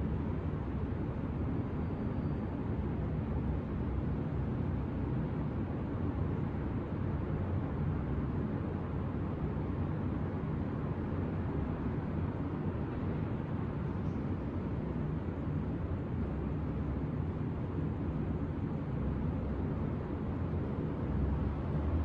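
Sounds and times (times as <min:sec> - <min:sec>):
distant city traffic hum: 0:00.0 - 0:22.0.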